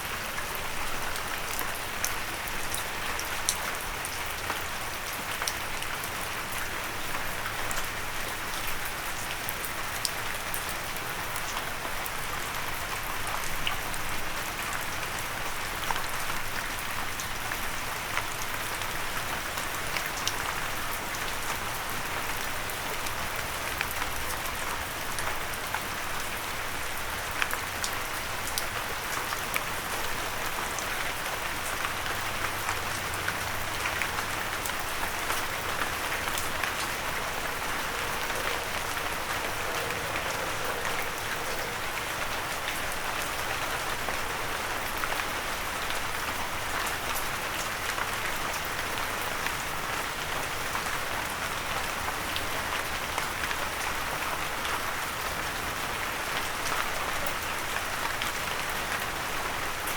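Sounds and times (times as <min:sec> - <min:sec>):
rain on a windowsill: 0:00.0 - 0:59.9.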